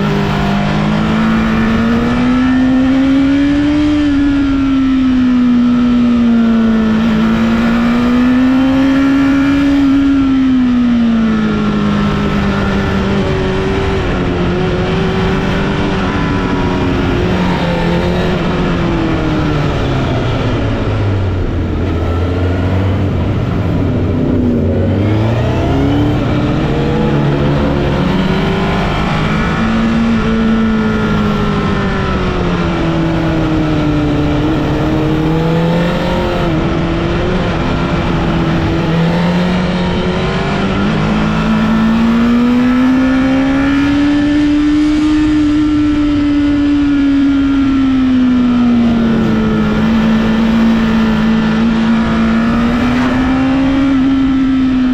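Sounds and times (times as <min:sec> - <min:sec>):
vehicle engine revving: 0:00.0 - 0:54.9.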